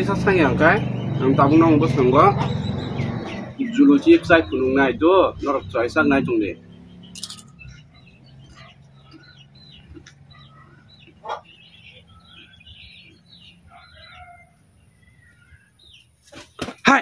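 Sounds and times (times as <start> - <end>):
high birdlike chirps: 0.0 - 16.6.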